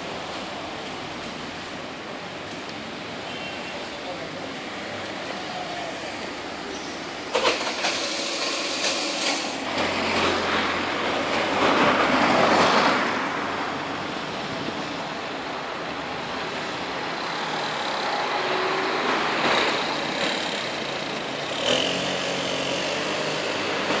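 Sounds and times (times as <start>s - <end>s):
road noise: 0.0s - 24.0s
vehicles passing: 0.0s - 24.0s.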